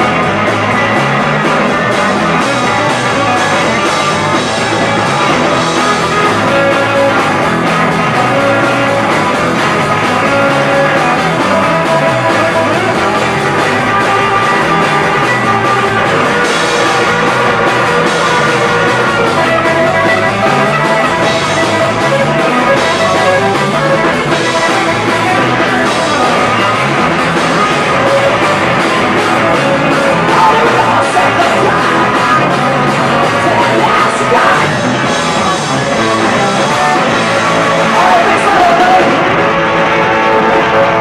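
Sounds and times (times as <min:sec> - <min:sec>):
drum kit: 0:00.0 - 0:41.0
electric guitars: 0:00.0 - 0:41.0.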